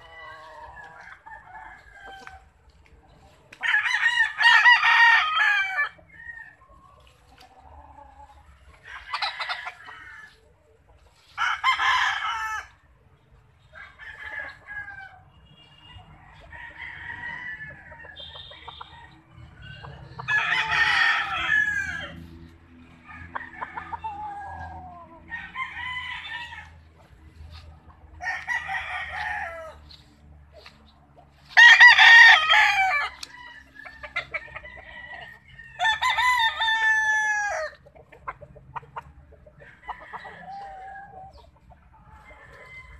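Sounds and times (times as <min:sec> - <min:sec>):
roosters crowing: 0:00.0 - 0:13.0, 0:13.6 - 0:42.9.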